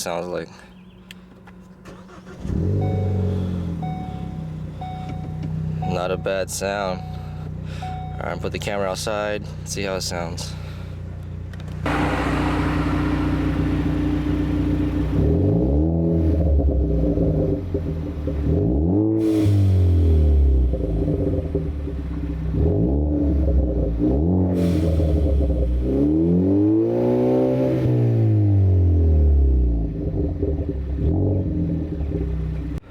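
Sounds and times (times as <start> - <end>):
car engine idling and revving: 1.0 - 32.9.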